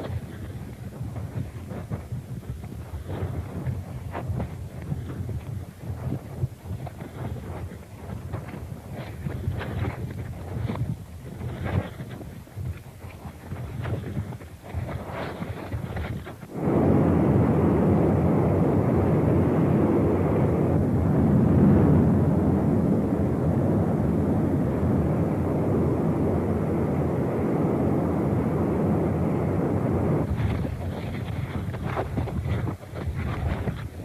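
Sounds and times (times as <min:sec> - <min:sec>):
volcanic eruption deep rushing: 0:00.0 - 0:34.0.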